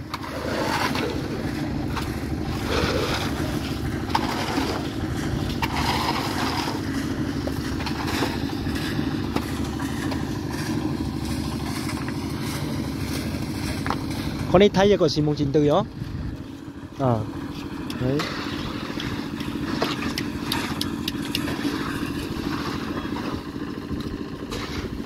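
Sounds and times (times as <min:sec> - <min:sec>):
rough engine noises: 0:00.0 - 0:25.0
small engine running steadily: 0:00.0 - 0:25.0.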